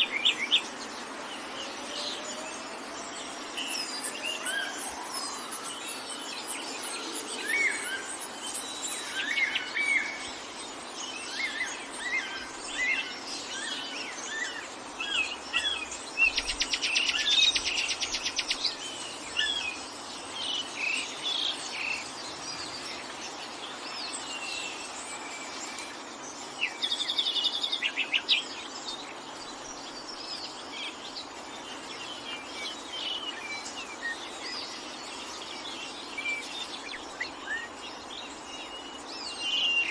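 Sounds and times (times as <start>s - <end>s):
songbirds chirping and whistling: 0.0s - 39.9s
background hiss: 4.9s - 39.9s.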